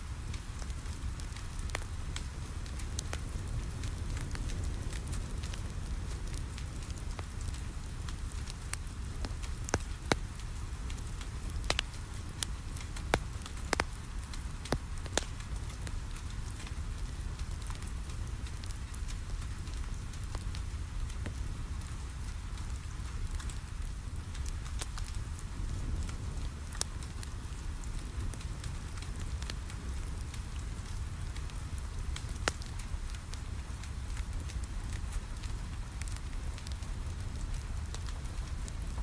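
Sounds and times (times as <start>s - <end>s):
rain on a window: 0.0s - 39.0s
wood fire crackling and popping: 0.0s - 39.0s.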